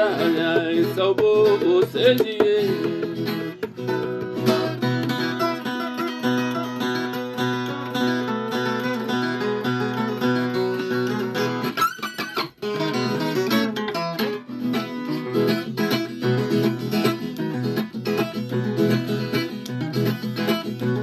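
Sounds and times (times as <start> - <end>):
plucked folk guitar: 0.0 - 21.0.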